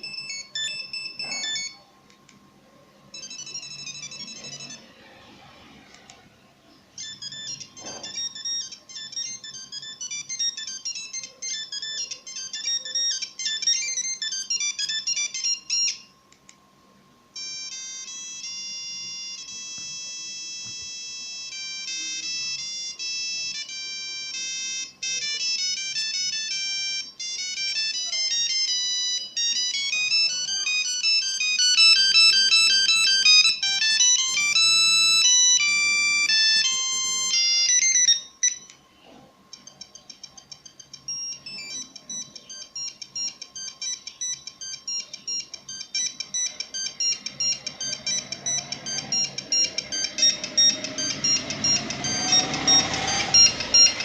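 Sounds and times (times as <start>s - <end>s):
monophonic ringtone beeping: 0.0s - 1.9s, 3.1s - 5.5s, 6.9s - 16.2s, 17.3s - 54.0s.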